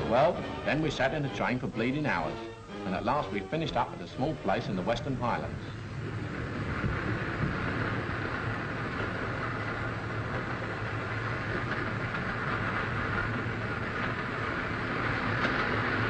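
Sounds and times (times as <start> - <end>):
steam train rumble and hiss: 0.0 - 16.0.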